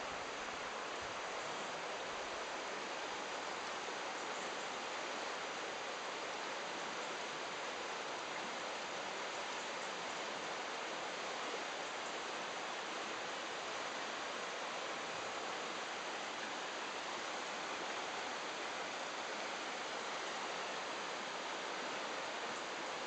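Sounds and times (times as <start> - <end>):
river current rushing: 0.0 - 23.0.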